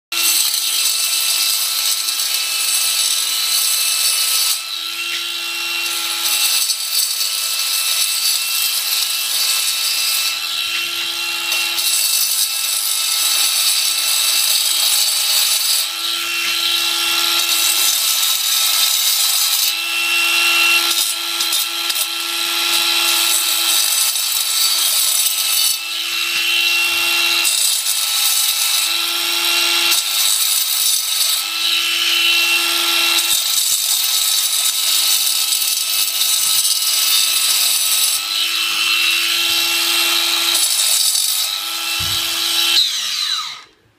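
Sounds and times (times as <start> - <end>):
angle grinder cutting concrete: 0.1 - 43.8.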